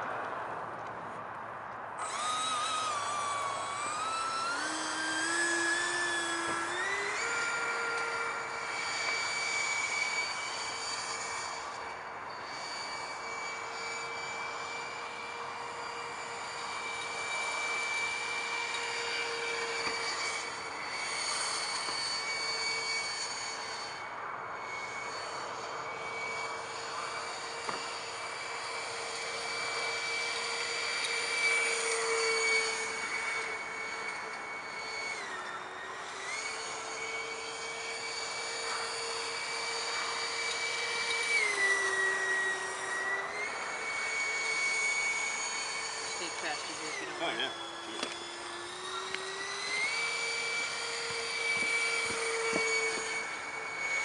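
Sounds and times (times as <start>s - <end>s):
electric ducted fan whining: 0.0s - 54.0s.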